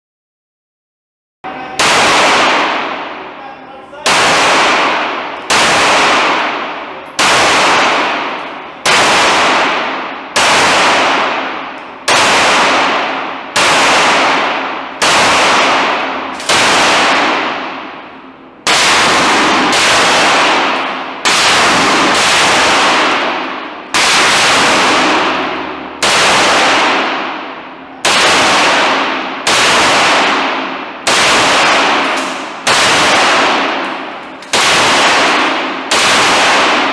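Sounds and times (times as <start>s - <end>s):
echoing gunshots: 1.5s - 36.9s.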